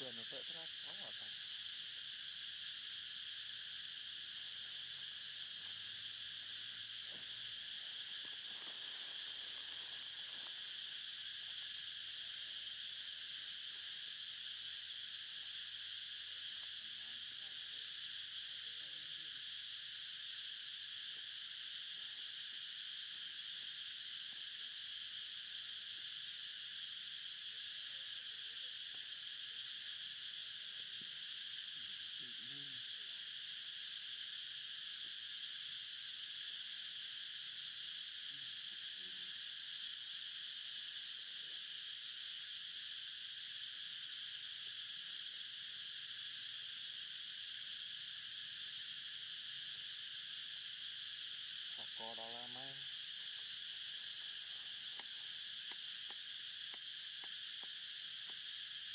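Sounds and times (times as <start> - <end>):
chorus of forest insects: 0.0 - 58.9.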